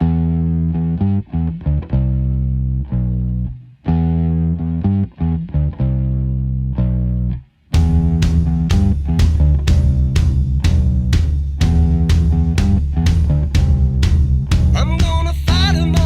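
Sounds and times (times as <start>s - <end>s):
guitar and bass music: 0.0s - 16.0s.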